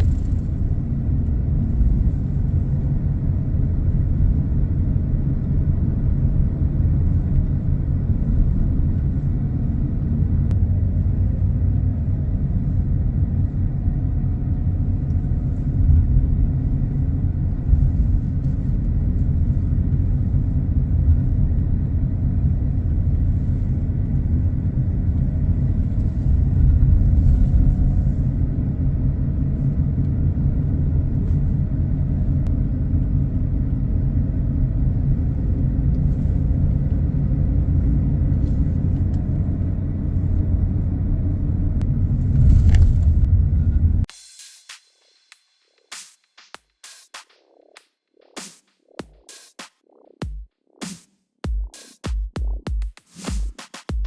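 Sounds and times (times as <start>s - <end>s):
car and road rumble: 0.0s - 44.1s.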